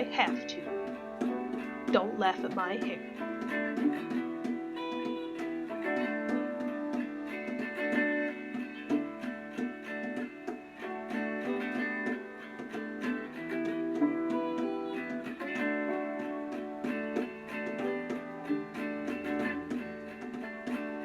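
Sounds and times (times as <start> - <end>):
plucked acoustic guitar music: 0.0 - 21.0.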